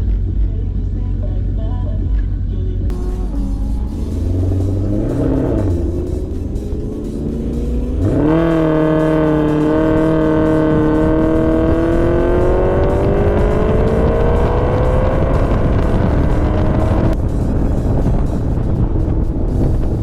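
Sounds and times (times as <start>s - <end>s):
sports car engine accelerating: 2.9s - 20.0s.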